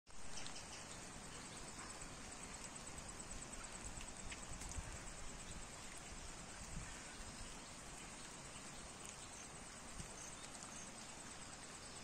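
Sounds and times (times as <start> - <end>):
insect chirping: 0.1 - 12.0
rain falling on pond: 0.1 - 12.0.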